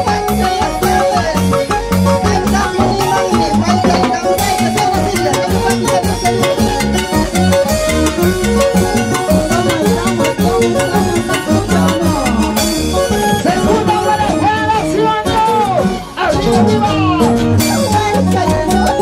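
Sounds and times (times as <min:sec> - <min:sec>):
live band playing dance music: 0:00.0 - 0:19.0.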